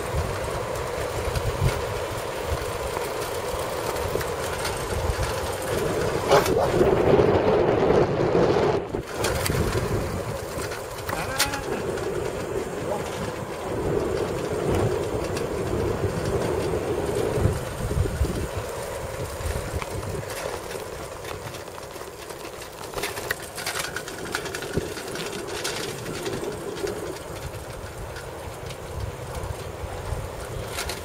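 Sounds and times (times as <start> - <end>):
bicycle rolling on asphalt: 0.0 - 31.0
wind buffeting microphone: 0.0 - 31.0.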